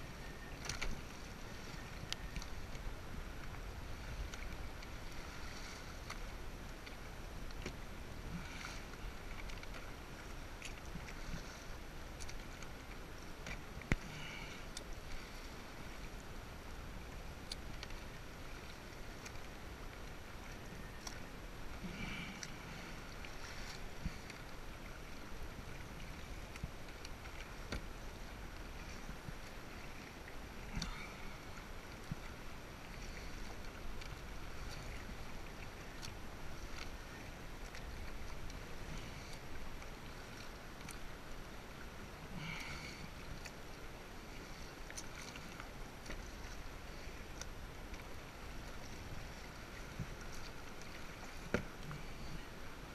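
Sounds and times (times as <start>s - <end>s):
paddle splashes: 0.0s - 52.9s
water splashing around kayak: 0.0s - 52.9s.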